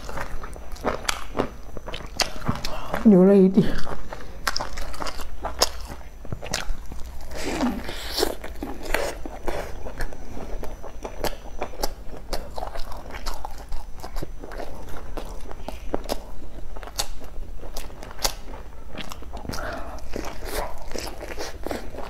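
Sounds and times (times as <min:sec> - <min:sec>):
chewing with mouth clicks: 0:00.0 - 0:22.0.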